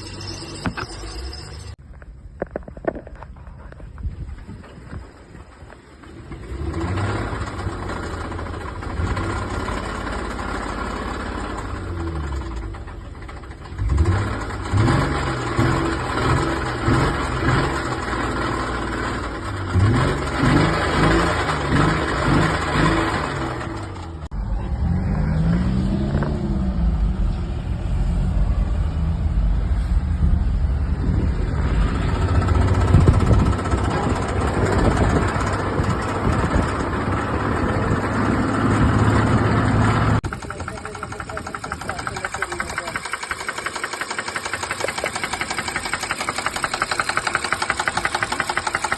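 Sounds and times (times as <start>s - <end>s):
car engine revving: 6.2s - 29.6s, 30.2s - 48.9s.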